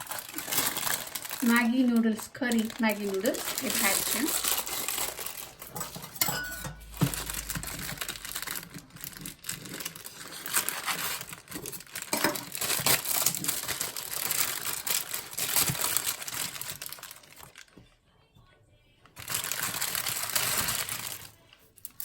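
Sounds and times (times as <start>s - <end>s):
plastic wrapper crinkling: 0.0s - 17.9s, 19.2s - 22.0s.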